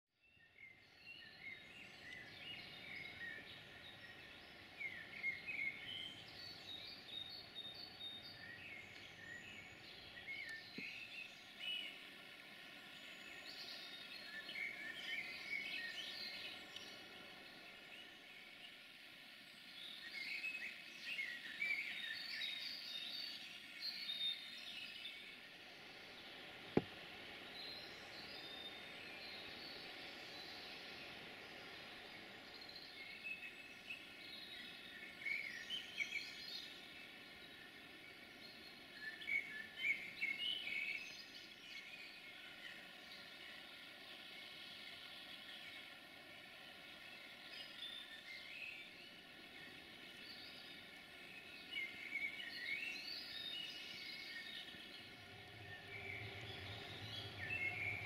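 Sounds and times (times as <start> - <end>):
small birds chirping: 0.2 - 58.0
faint background hum: 0.3 - 58.0.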